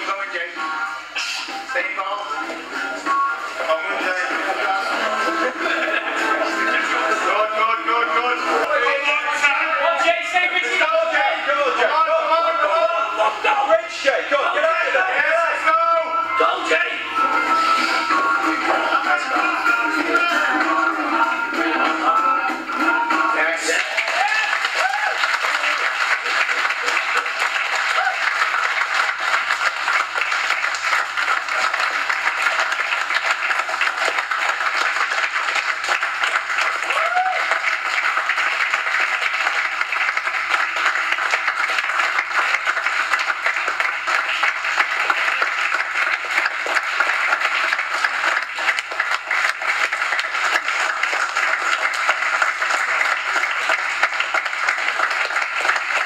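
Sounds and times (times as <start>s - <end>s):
people clapping: 0.0s - 0.5s, 1.1s - 15.6s, 17.3s - 56.0s.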